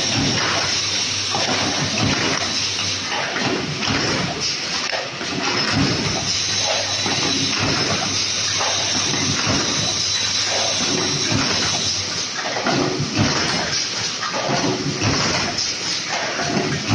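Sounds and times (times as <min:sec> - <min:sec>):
machine clattering: 0:00.0 - 0:16.9
machine running: 0:00.0 - 0:16.9.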